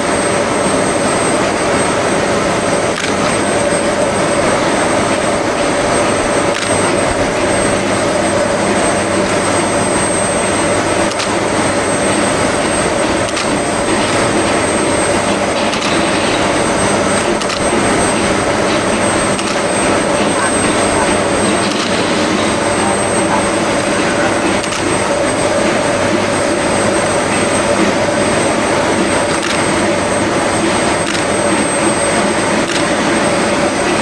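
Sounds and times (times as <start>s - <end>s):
constant hum: 0.0s - 34.0s
steam locomotive roaring: 0.0s - 34.0s.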